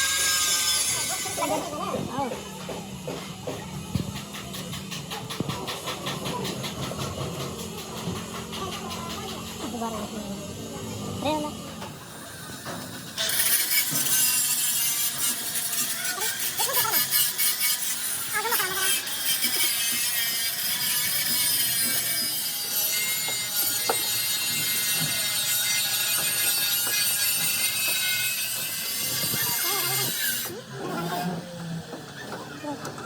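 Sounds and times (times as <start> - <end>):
power tool on metal: 0.0 - 33.0.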